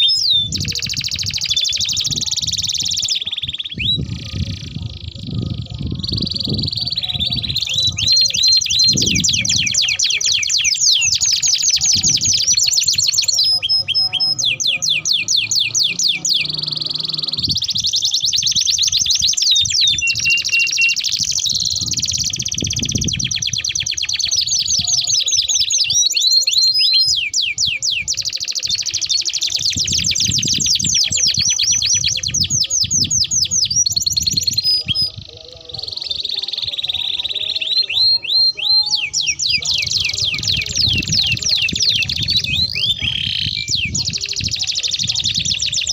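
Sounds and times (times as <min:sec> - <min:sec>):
canaries singing trills: 0:00.0 - 0:45.9.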